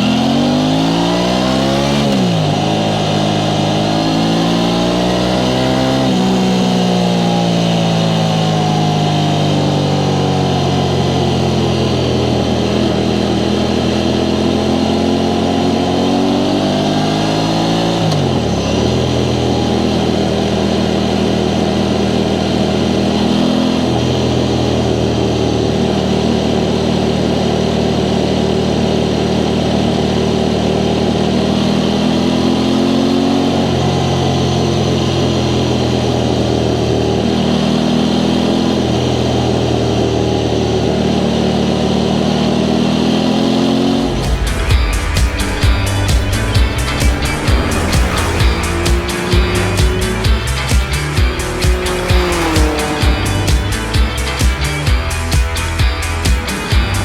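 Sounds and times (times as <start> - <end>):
motorcycle engine revving: 0.0 - 26.8, 27.8 - 57.0.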